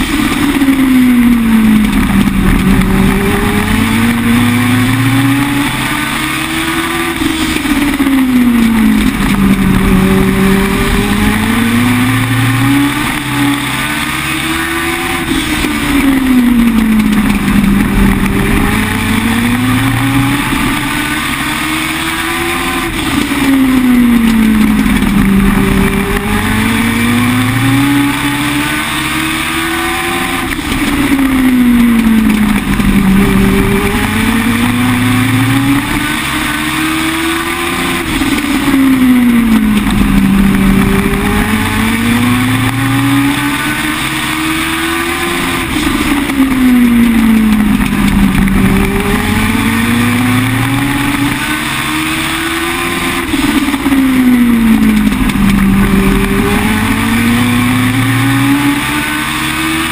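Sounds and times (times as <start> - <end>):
racing engine revving: 0.0 - 59.9.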